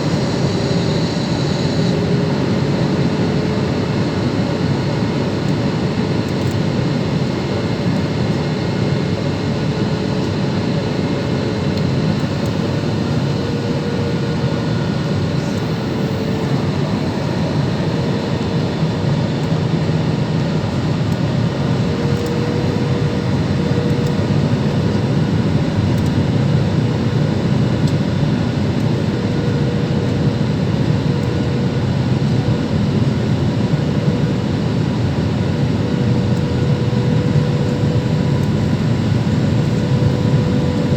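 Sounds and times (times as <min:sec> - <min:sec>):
jet engines rushing drone: 0:00.0 - 0:40.9.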